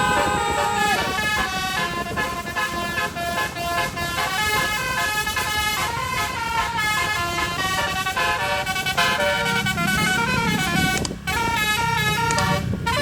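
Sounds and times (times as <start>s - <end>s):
bus air horns playing melody: 0.0s - 13.0s.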